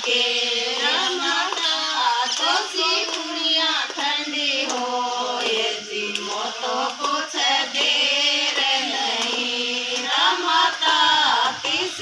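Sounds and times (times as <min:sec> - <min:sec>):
group singing devotional song: 0:00.0 - 0:12.0.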